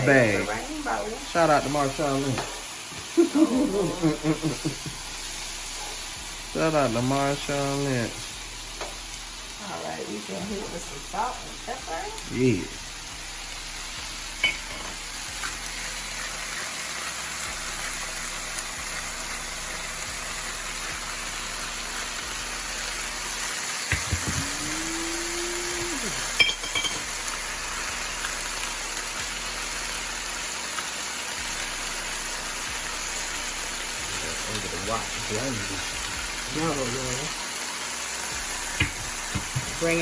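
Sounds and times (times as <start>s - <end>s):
vegetables sizzling in a pan: 0.0s - 40.0s.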